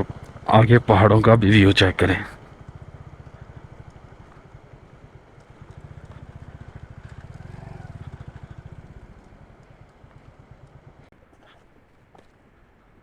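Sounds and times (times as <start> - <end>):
motorcycle engine at low revs: 0.0 - 11.1.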